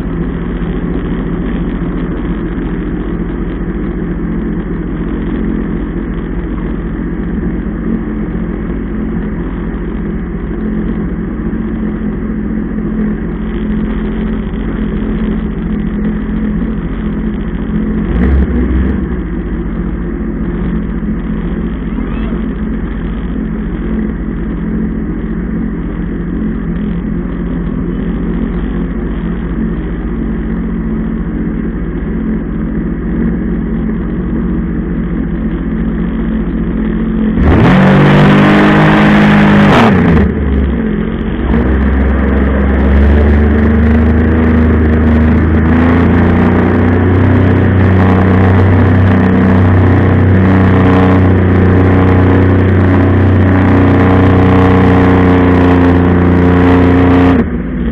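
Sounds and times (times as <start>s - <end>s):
jet ski engine running: 0.0s - 57.9s.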